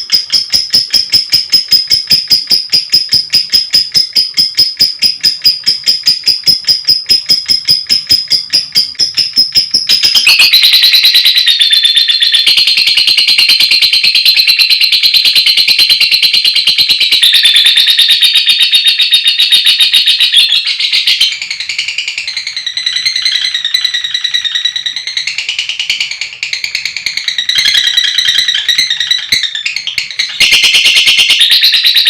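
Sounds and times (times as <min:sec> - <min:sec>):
lovebird chattering trill: 0:00.0 - 0:32.0.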